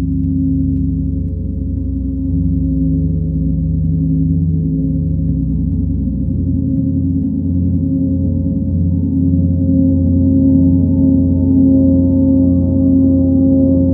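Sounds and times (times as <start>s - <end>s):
gongs sustained tones: 0.0s - 13.9s.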